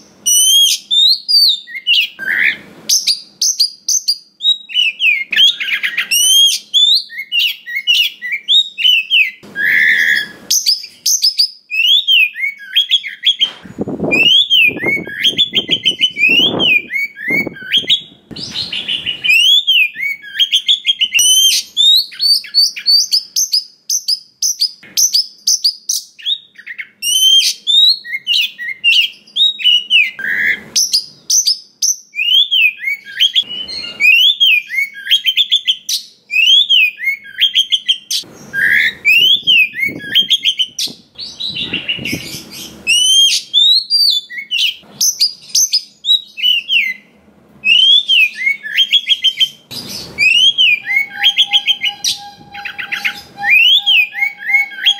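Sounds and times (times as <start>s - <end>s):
songbird singing whistled phrases: 0.0s - 54.9s.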